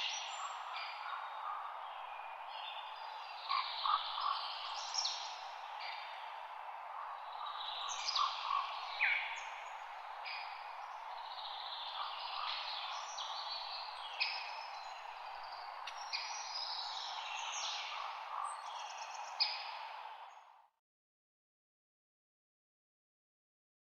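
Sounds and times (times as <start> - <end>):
wind in trees: 0.0 - 20.8.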